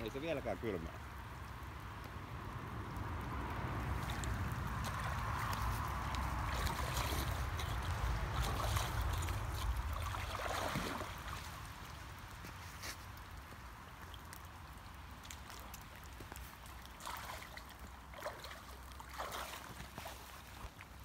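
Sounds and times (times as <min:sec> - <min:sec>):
water sloshing and splashing: 0:03.2 - 0:21.0.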